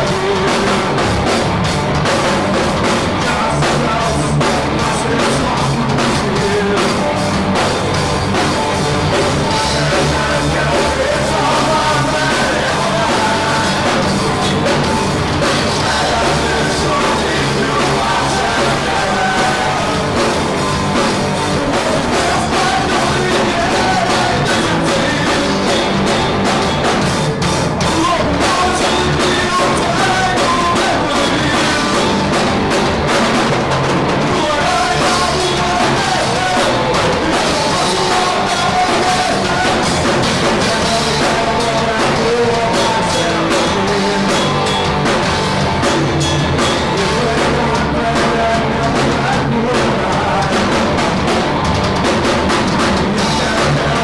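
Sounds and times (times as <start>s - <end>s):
person singing: 0.0s - 1.4s, 2.1s - 7.8s, 8.4s - 27.1s, 27.7s - 33.4s, 34.1s - 54.0s
bass guitar: 0.0s - 54.0s
distorted electric guitar: 0.0s - 54.0s
drum kit: 0.0s - 54.0s.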